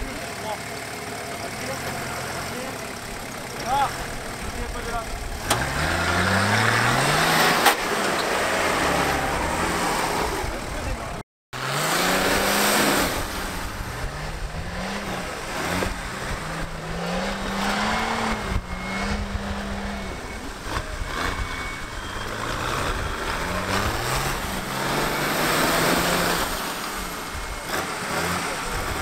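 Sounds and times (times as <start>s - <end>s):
off-road engine revving: 0.0s - 29.0s.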